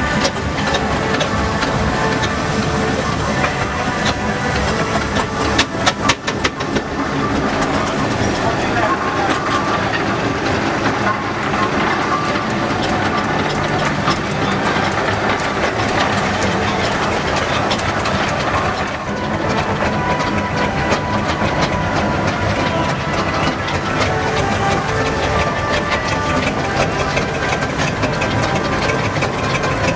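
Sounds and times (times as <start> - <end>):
steam traction engines rumbling: 0.0 - 29.9.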